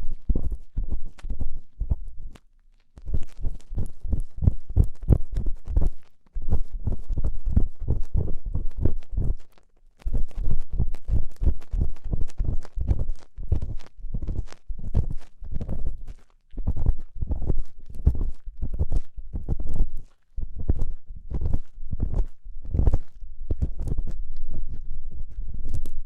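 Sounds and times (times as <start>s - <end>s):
ear-cleaning tool scraping microphone: 0.0s - 2.4s, 3.0s - 26.0s.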